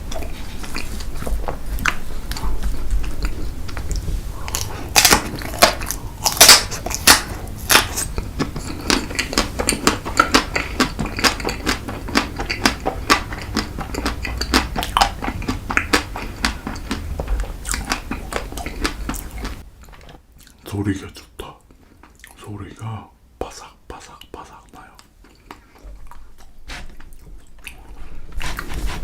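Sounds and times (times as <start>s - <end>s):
crunchy chewing: 0.0s - 20.6s, 24.1s - 29.0s.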